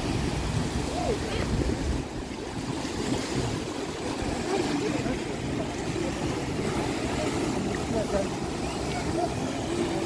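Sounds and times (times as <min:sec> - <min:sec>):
sea waves washing: 0:00.0 - 0:10.0.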